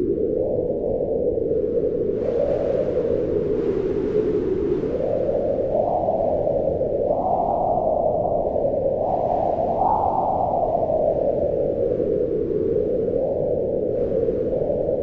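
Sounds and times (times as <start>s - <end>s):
howling wind: 0.0s - 15.0s.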